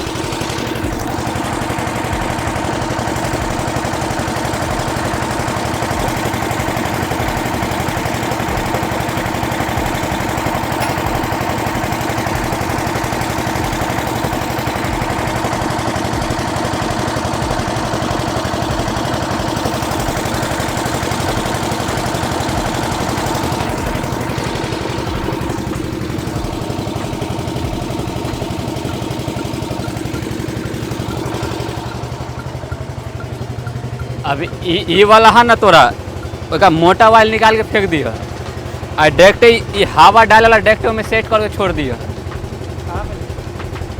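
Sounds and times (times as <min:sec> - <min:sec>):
engine idling hum: 0:00.0 - 0:43.9.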